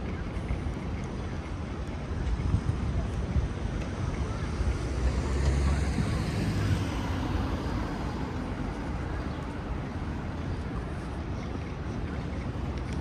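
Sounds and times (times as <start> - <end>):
traffic rumble: 2.3 - 13.0.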